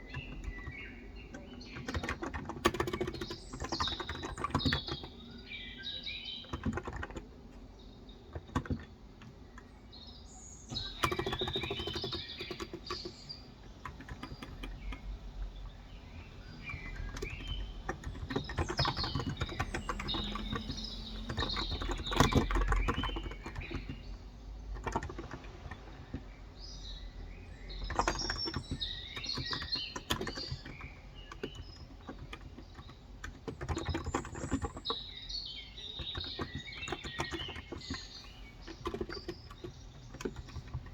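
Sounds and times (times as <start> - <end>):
keyboard typing: 0.0 - 9.7, 10.7 - 40.9
small birds chirping: 0.0 - 40.9.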